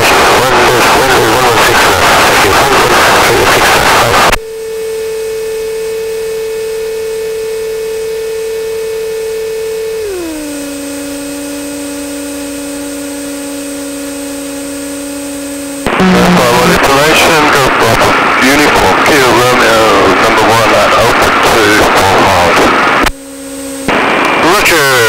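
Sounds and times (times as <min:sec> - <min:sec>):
engine whine over intercom: 0:00.0 - 0:25.0.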